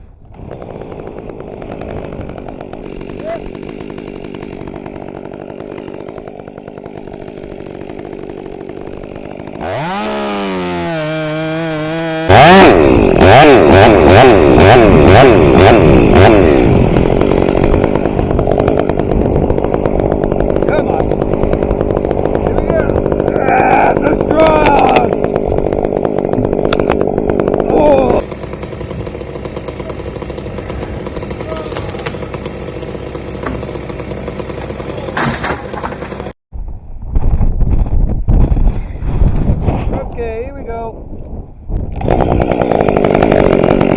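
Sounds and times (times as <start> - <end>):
chainsaw revving: 0.2 - 36.4, 41.9 - 43.9.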